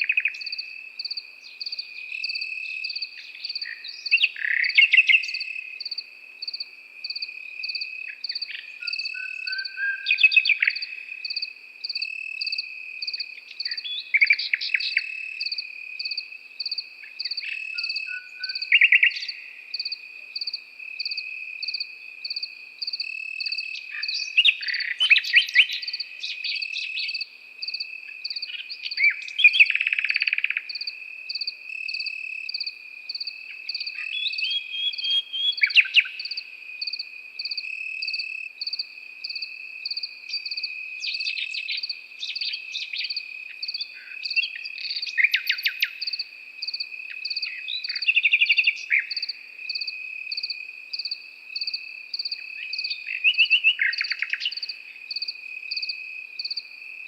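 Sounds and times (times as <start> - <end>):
cricket trill: 0.0 - 57.0
insect chirping: 0.0 - 57.0
nightingale singing: 0.0 - 57.0.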